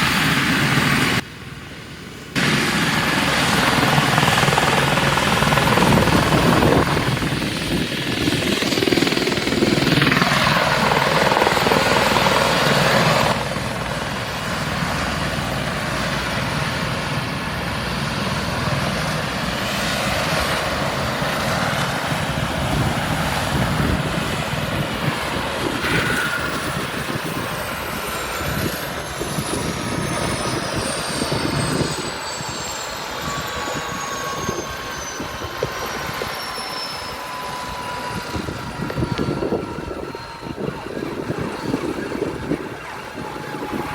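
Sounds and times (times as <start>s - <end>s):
helicopter rotors and engines: 0.0s - 43.9s.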